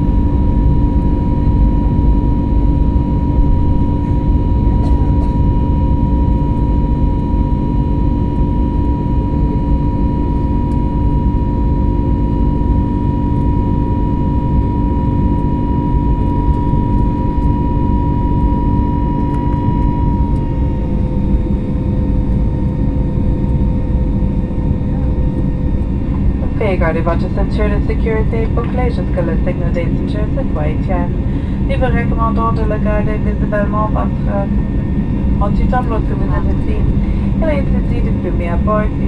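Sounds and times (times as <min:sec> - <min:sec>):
aircraft cabin deep rumble: 0:00.0 - 0:39.0
high jet engine whine: 0:00.0 - 0:39.0
steady engine tones: 0:00.0 - 0:39.0.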